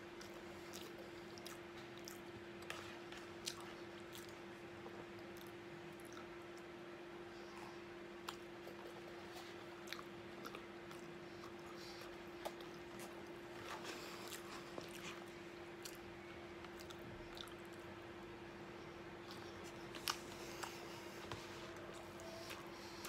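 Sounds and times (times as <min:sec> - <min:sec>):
man chewing food: 0:00.0 - 0:23.0
steady low hum: 0:00.0 - 0:23.0.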